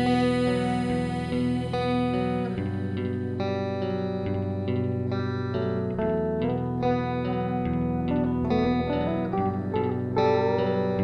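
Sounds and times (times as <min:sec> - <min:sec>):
guitar played through effects: 0:00.0 - 0:11.0.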